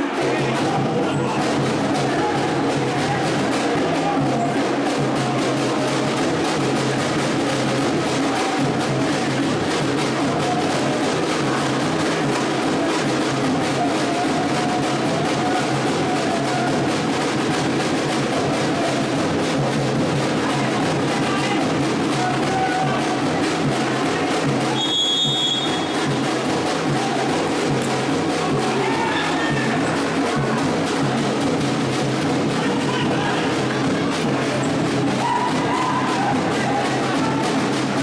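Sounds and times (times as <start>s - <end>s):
music with drum beat and bass: 0.0s - 38.0s.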